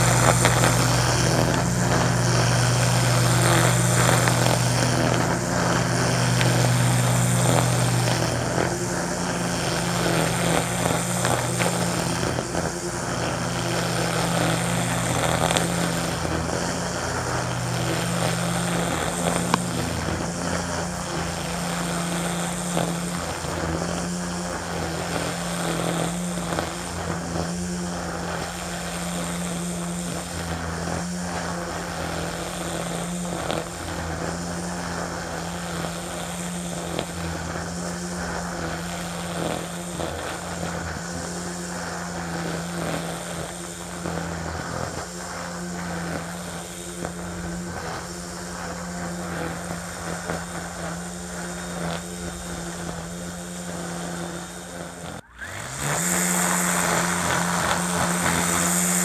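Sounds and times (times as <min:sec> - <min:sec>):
string trimmer running: 0:00.0 - 0:59.0
trimmer line slapping grass: 0:00.0 - 0:59.0.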